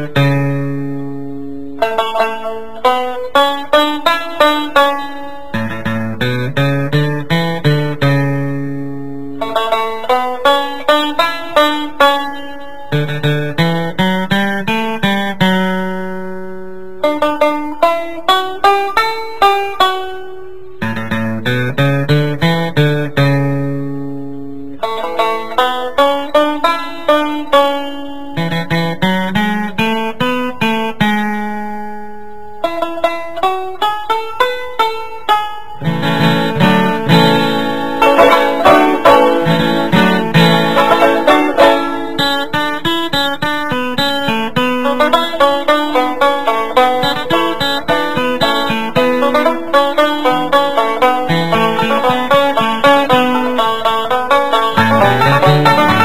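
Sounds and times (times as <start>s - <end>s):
plucked acoustic string melody: 0.0s - 56.0s.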